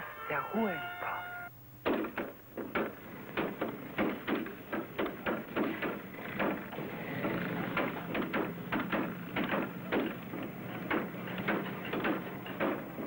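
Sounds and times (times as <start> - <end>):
hammers knocking: 1.8 - 13.0.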